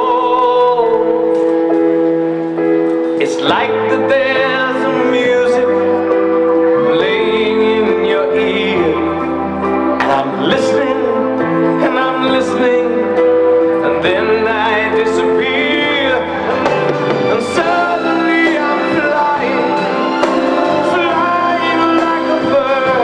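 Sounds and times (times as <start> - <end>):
slow song with singing: 0.0 - 23.0.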